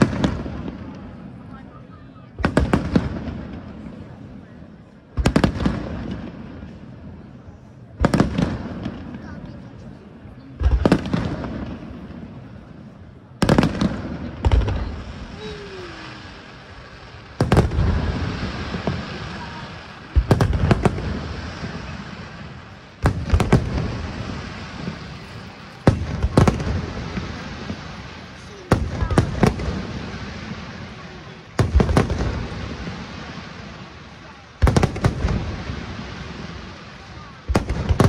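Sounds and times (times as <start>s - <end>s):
firework bangs: 0.0s - 38.0s.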